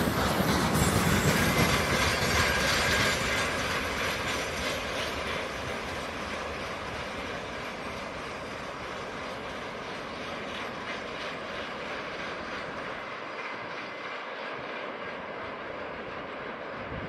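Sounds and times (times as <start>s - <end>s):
train wheels clattering on rails: 0.0s - 16.9s.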